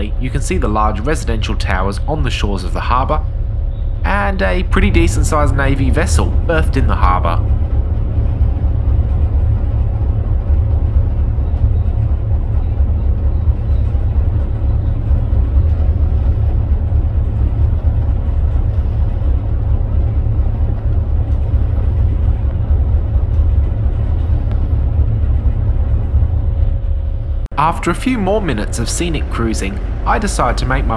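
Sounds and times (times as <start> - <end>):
faint steady hum: 0.0 - 30.9
ferry engines low rumble: 0.0 - 30.9.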